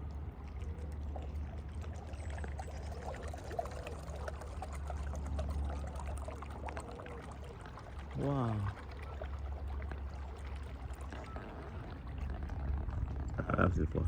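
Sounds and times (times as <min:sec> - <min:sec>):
water pouring and churning: 0:00.0 - 0:14.0.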